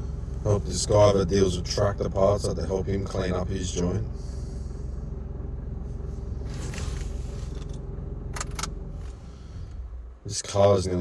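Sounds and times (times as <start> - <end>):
vehicle rumble from inside cabin: 0.0 - 11.0.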